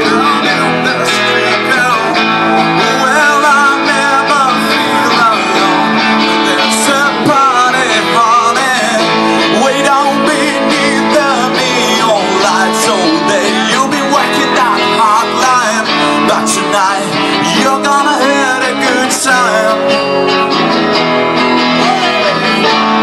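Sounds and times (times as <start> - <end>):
man singing: 0.0 - 20.6, 21.6 - 23.0
acoustic guitars strumming: 0.0 - 23.0.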